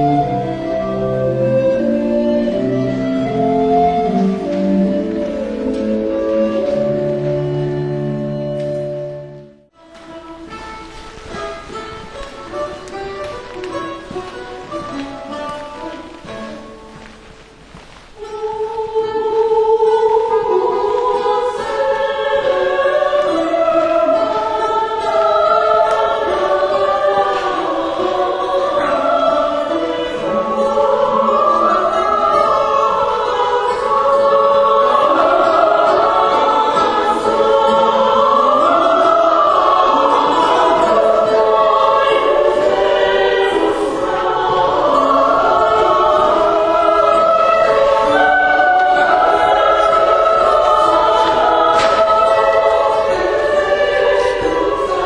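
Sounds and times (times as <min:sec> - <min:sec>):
choir singing slow lines: 0:00.0 - 0:10.2, 0:11.6 - 0:55.0.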